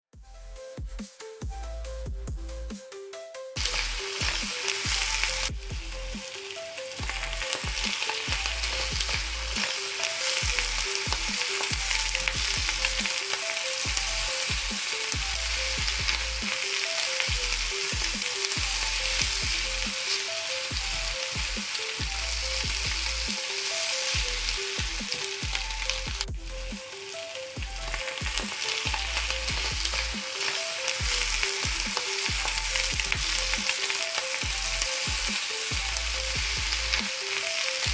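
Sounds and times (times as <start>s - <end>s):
background music: 0.1s - 37.9s
food sizzling in hot oil: 3.6s - 37.9s.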